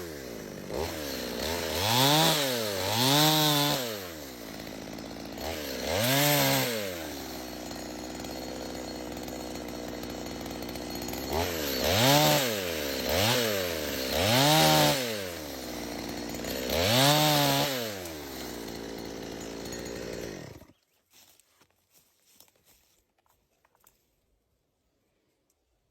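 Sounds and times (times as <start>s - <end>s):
chainsaw engine idling and revving: 0.0s - 20.8s.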